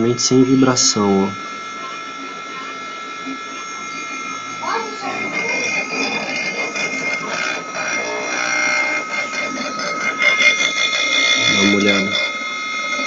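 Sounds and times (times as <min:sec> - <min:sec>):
milling spindle motor whining: 0:00.0 - 0:13.0.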